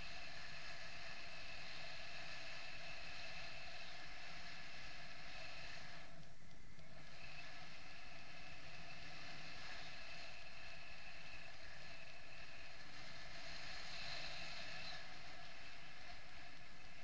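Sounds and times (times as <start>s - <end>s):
faint steady tones: 0.0s - 17.0s
wind rushing over microphone: 0.0s - 17.0s.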